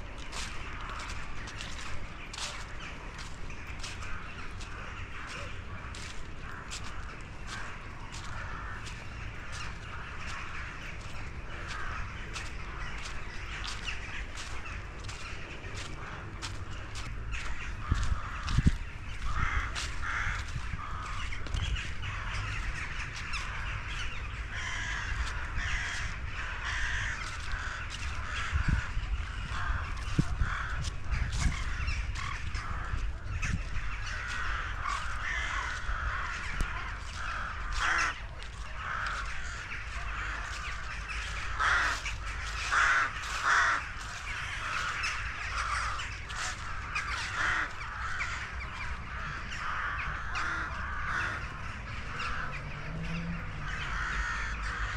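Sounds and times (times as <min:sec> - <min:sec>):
crows cawing: 0:00.0 - 0:54.9
footsteps in dry leaves: 0:00.0 - 0:54.9
steady low rumble: 0:00.0 - 0:54.9.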